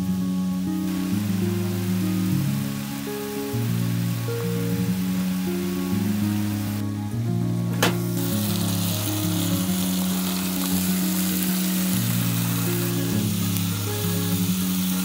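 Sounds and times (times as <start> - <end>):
food sizzling in a pan: 0.0 - 6.8, 7.8 - 15.0
background music with low notes: 0.0 - 15.0.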